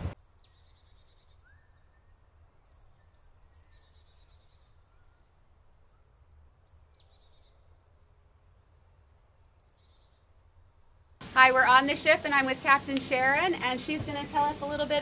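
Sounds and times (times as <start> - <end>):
songbird chirps and trills: 0.1 - 12.6.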